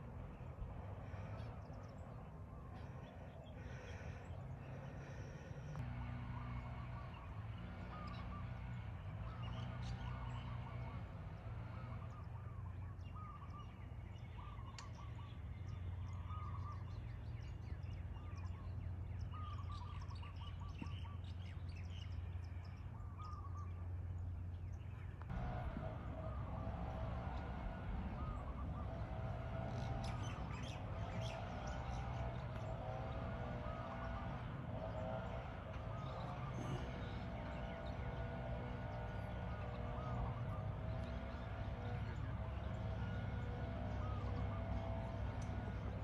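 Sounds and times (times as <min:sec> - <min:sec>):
birds calling: 0:00.0 - 0:46.0
steady low hum: 0:00.0 - 0:46.0.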